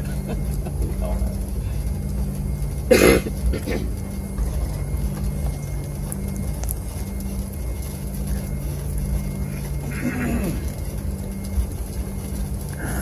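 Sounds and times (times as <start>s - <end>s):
airplane cabin rumble: 0.0s - 13.0s
faint high whine: 0.0s - 13.0s
jet engine hum: 0.0s - 13.0s.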